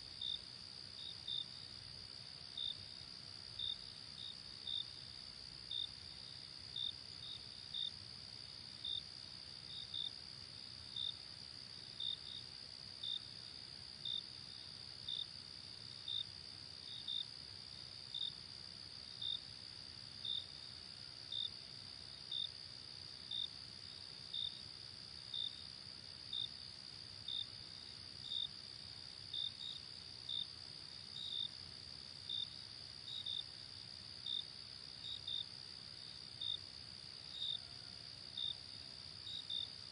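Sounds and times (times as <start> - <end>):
louder cricket chirping: 0.0 - 39.9.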